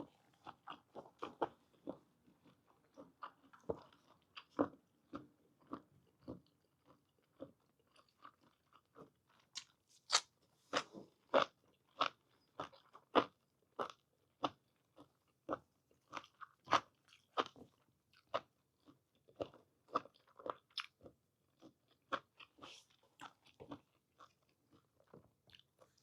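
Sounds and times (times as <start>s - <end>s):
close chewing with crunchy bites: 0.1s - 26.0s.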